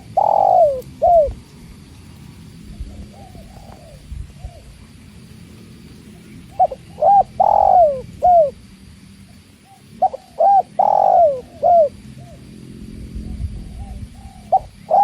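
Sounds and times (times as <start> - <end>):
dove cooing: 0.0 - 1.4, 2.6 - 5.0, 5.8 - 8.6, 9.3 - 15.0.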